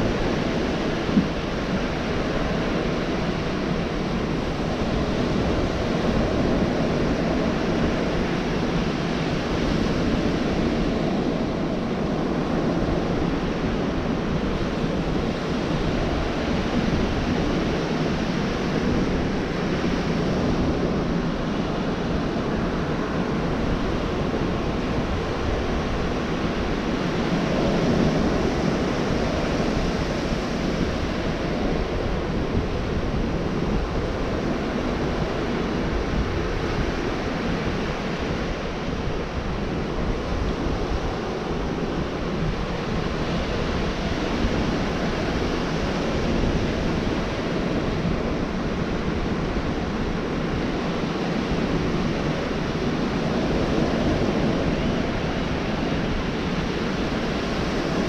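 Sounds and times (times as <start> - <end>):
surf breaking on a beach: 0.0 - 58.0
wind noise on microphone: 0.0 - 58.0.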